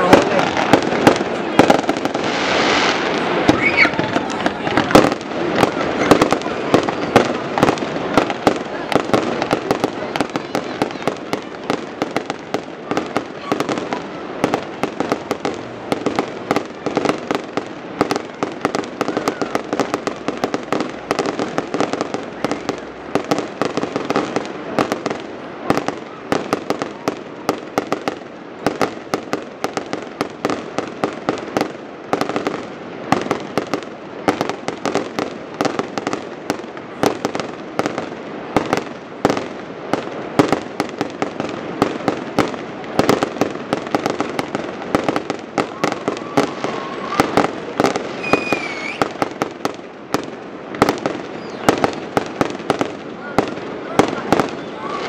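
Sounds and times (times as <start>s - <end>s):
fireworks bangs and crackling pops: 0.0s - 55.0s
steady hiss: 0.0s - 55.0s.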